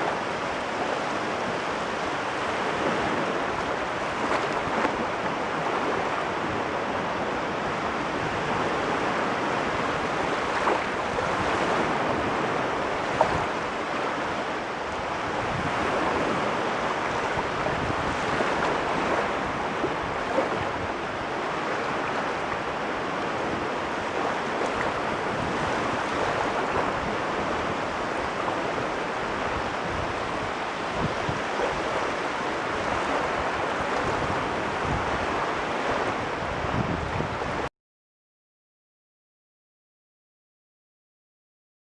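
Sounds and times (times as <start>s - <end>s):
waves washing on shore: 0.0s - 37.7s.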